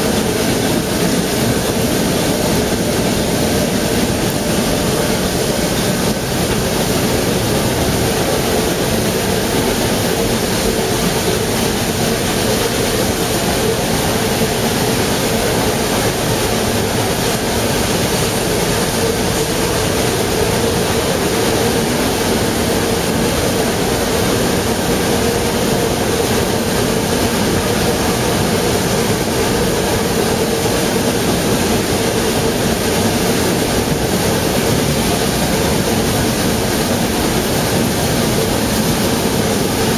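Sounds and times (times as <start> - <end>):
steam train running: 0.0 - 39.9.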